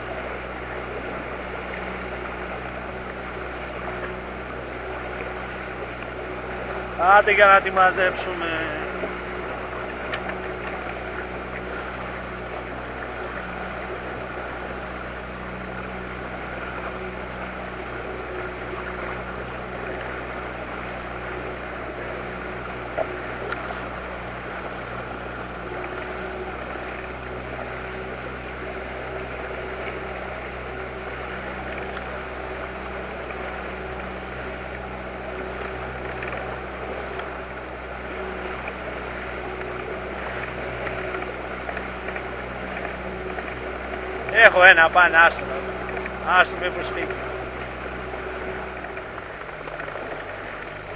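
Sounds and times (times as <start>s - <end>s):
outboard motor humming: 0.0s - 50.9s
water rushing along hull: 0.0s - 50.9s.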